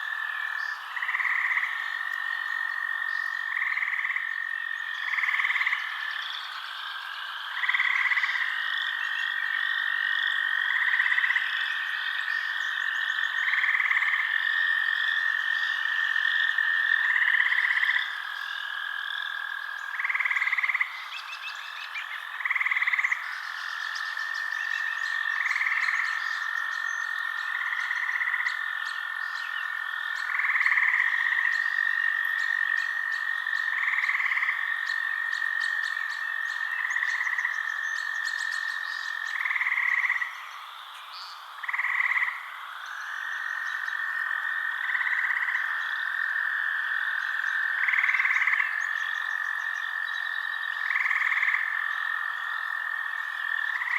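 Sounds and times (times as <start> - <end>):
frog call: 0.0 - 53.9
steady high insect drone: 0.0 - 53.9.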